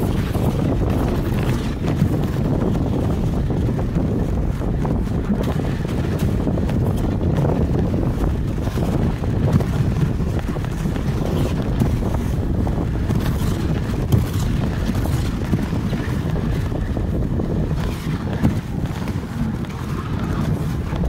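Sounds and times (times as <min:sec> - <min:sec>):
sled runners scraping over snow: 0:00.0 - 0:21.0
wind buffeting microphone: 0:00.0 - 0:21.0.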